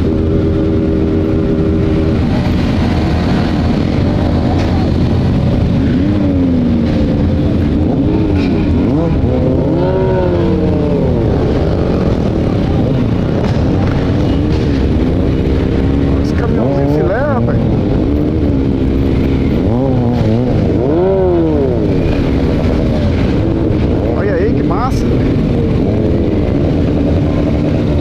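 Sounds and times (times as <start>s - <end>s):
motorcycle engines revving: 0.0s - 28.0s
wind and road noise: 0.0s - 28.0s.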